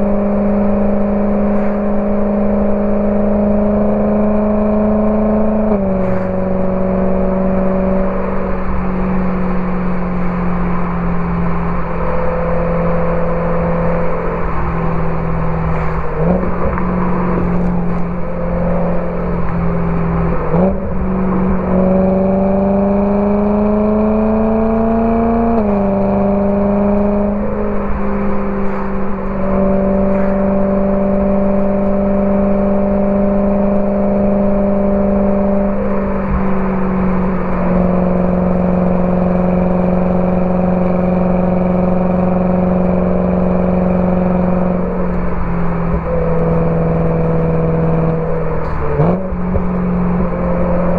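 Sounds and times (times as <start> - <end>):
car engine droning under throttle: 0.0 - 50.9.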